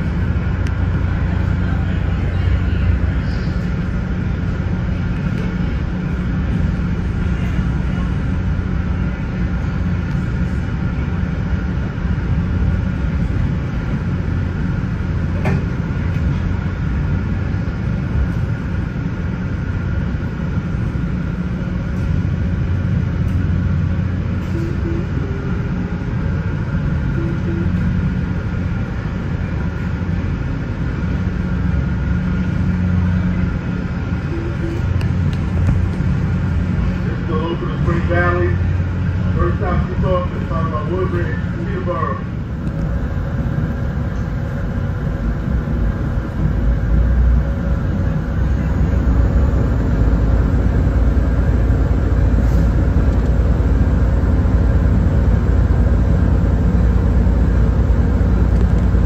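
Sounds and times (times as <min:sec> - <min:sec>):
constant low hum: 0:00.0 - 0:59.0
train rumbling: 0:00.0 - 0:59.0.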